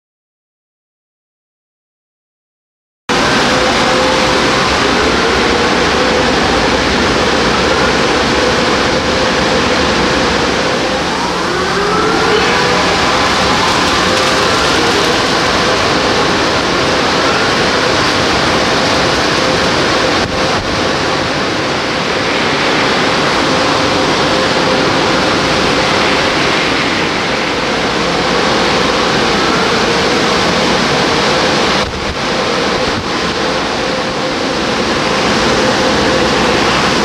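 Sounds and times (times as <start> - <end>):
car wash dryer air rushing: 3.1 - 37.0
steady hum: 3.1 - 37.0.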